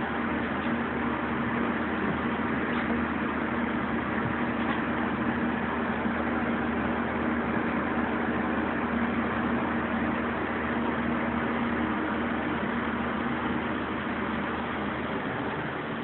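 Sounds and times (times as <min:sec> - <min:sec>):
steady hum with hiss: 0:00.0 - 0:16.0.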